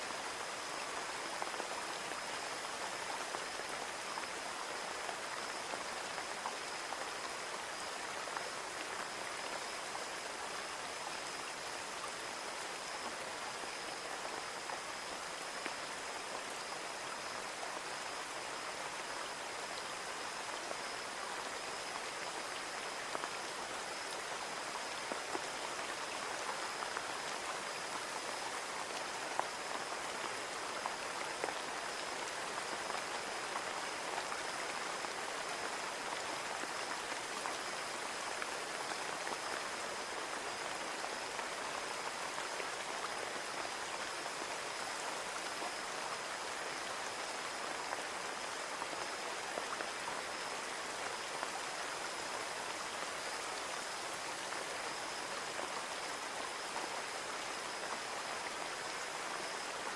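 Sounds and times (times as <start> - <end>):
rain on a window: 0.1 - 59.9.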